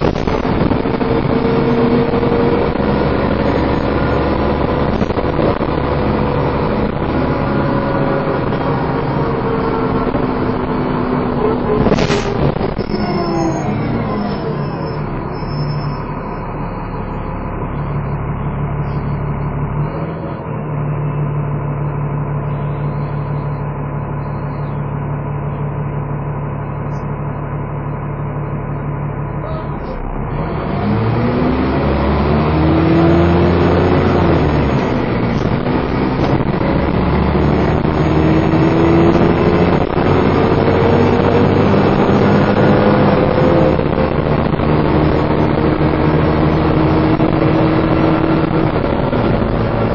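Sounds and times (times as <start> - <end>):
bus engine running: 0.0 - 49.9.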